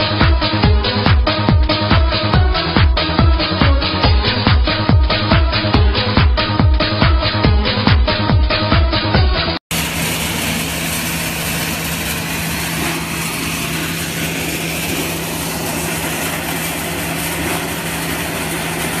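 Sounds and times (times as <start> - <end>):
corn sheller mechanical hum: 0.0 - 19.0.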